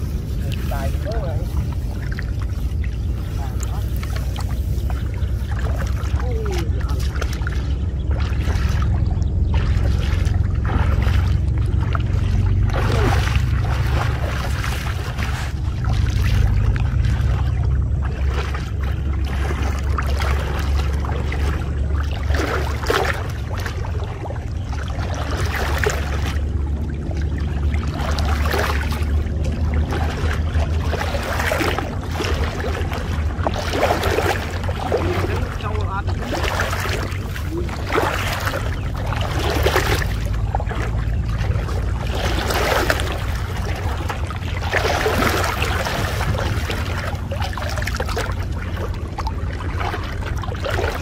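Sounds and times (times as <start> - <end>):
steady low rumble: 0.0 - 51.0
water sloshing and splashing: 0.0 - 51.0.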